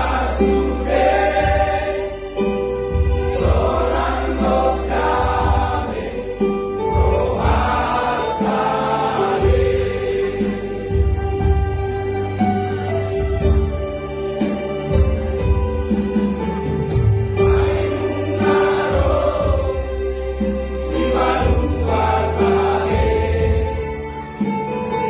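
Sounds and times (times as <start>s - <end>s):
instrumental backing with bass: 0.0s - 25.0s
voices singing hymn in harmony: 0.0s - 25.0s.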